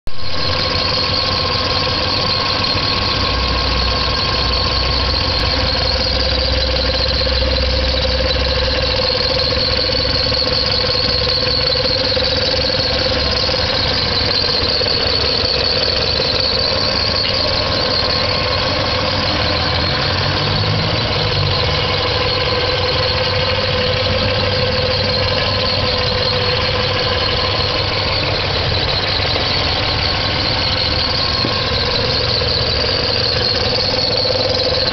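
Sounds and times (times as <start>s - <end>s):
car engine running: 0.1s - 34.9s
constant high squeal: 0.1s - 34.9s.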